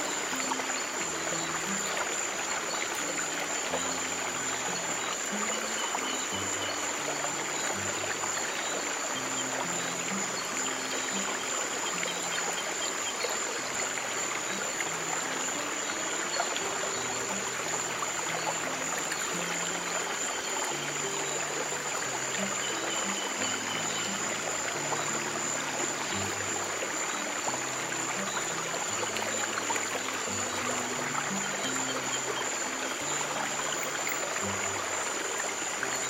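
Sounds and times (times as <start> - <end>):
stream water trickling: 0.0 - 36.0.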